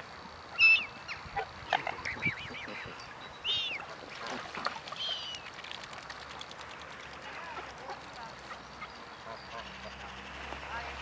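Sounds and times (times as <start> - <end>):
waterbirds calling: 0.0 - 11.0.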